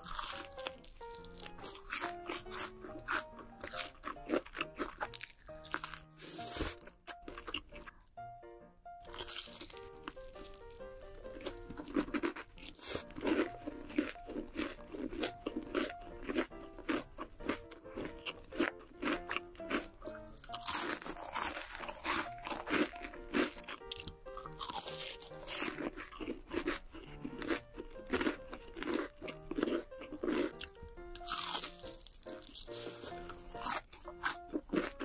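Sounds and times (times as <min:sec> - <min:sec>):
fried chicken crunching: 0:00.0 - 0:08.2, 0:09.0 - 0:35.0
background music: 0:00.0 - 0:35.0.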